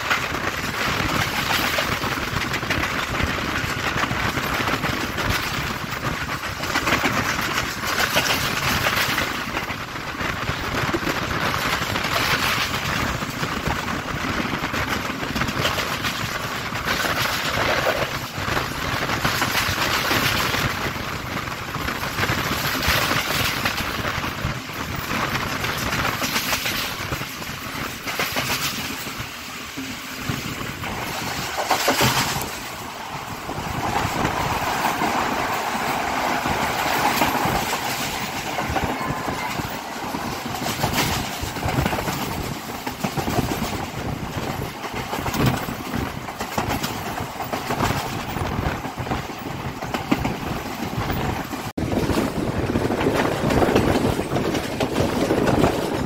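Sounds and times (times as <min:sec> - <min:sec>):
train wheels rumbling on rails: 0:00.0 - 0:56.0
wind rushing: 0:00.0 - 0:56.0.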